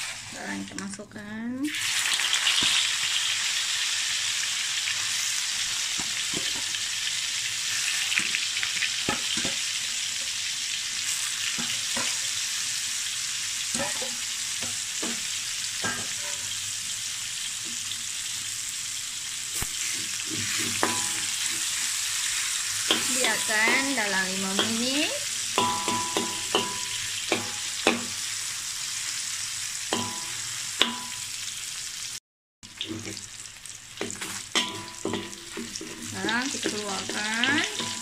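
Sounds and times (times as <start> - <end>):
nuggets sizzling in hot oil: 0.0 - 38.0.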